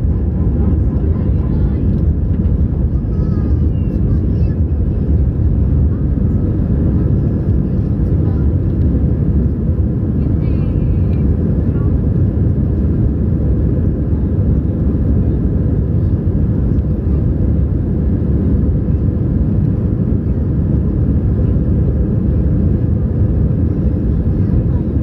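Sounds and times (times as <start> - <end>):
jet engines rumbling in cabin: 0.0 - 25.0.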